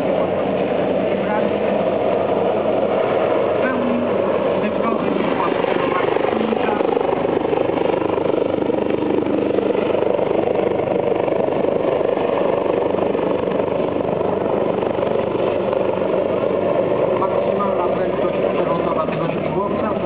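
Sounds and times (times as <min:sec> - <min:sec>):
helicopter in flight: 0:00.0 - 0:20.0.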